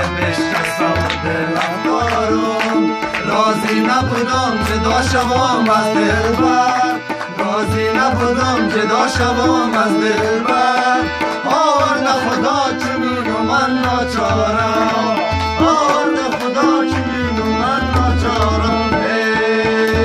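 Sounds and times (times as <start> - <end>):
harmonium: 0.0 - 20.0
man singing: 0.0 - 20.0.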